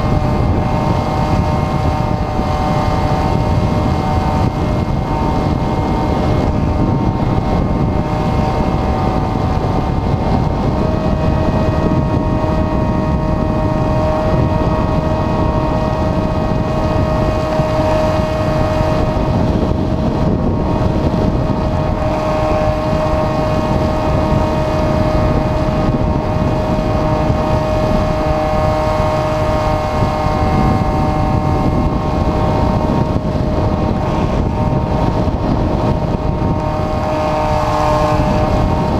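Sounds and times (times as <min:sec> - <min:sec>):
electric motor and propeller whining: 0:00.0 - 0:38.9
wind rumble on microphone: 0:00.0 - 0:38.9.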